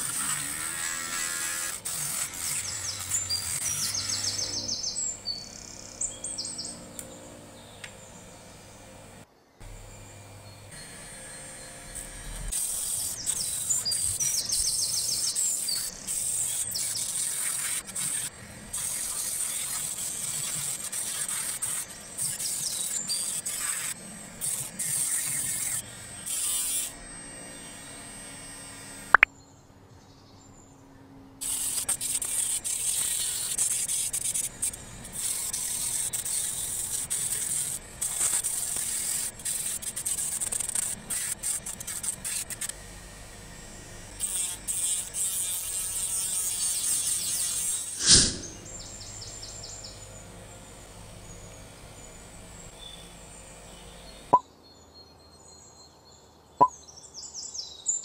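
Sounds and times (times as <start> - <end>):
small motor grinding wood: 0.0 - 29.3, 31.4 - 54.4.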